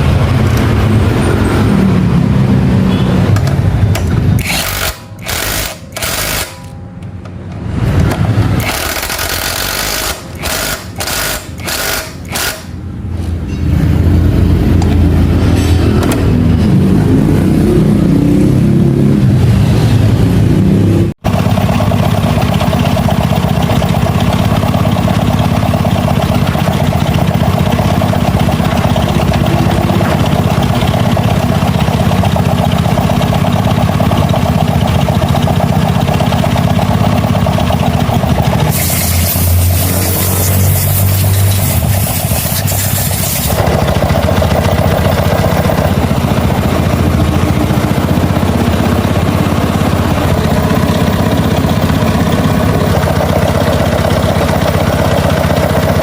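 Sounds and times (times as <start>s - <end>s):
small motorcycle engine running: 0.0s - 6.8s, 7.6s - 13.1s, 19.7s - 56.0s.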